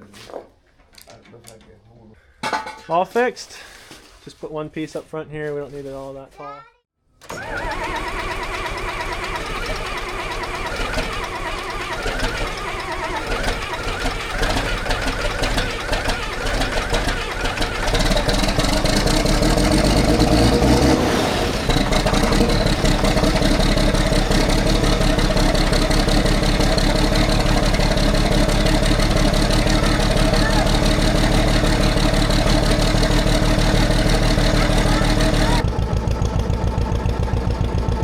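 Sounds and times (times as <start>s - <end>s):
tractor engine running: 7.2s - 38.0s.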